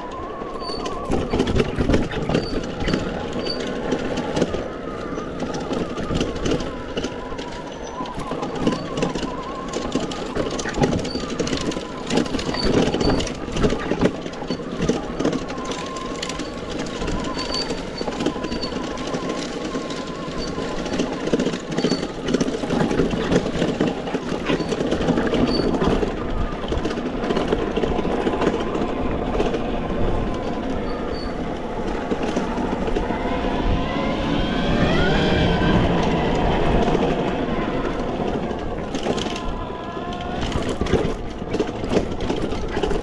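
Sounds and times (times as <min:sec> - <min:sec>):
bike frame rattling over rough ground: 0:00.0 - 0:34.0, 0:35.0 - 0:43.0
wind buffeting microphone: 0:00.0 - 0:43.0.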